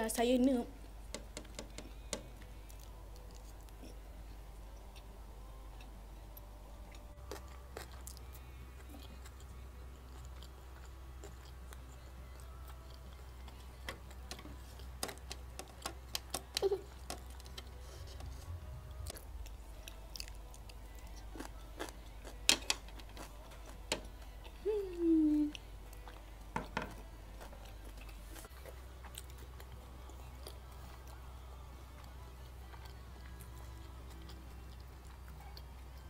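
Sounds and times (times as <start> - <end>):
faint low hum: 0.0 - 36.0
chewing food: 1.8 - 36.0.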